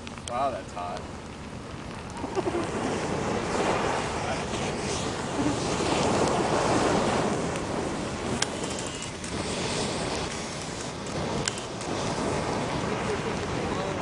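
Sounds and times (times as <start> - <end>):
burning firework snakes hissing: 0.0 - 14.0.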